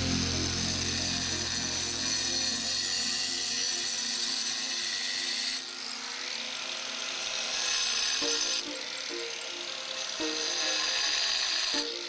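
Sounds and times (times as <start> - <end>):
angle grinder cutting plaster: 0.0 - 12.0.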